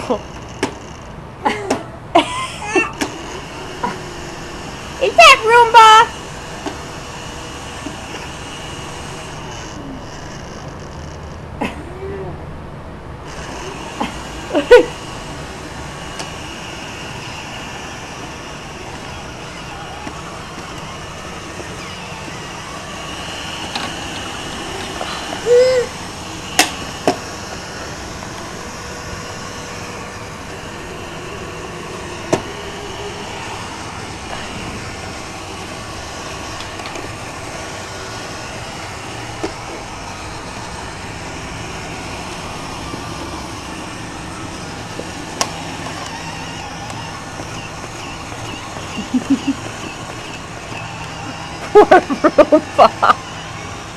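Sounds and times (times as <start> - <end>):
robot vacuum whirring: 0.0 - 11.4, 13.2 - 53.9.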